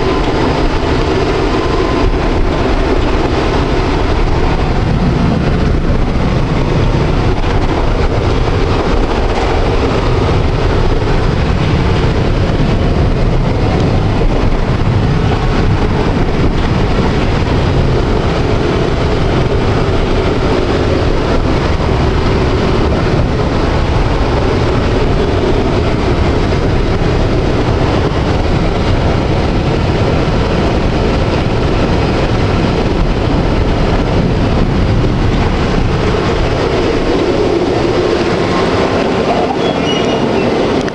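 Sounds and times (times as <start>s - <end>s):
electric tram running on rails: 0.0s - 40.9s.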